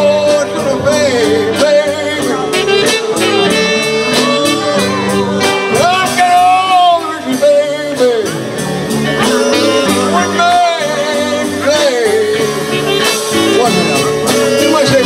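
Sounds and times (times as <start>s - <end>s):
live soul band playing: 0.0s - 15.0s
man singing: 0.0s - 15.0s.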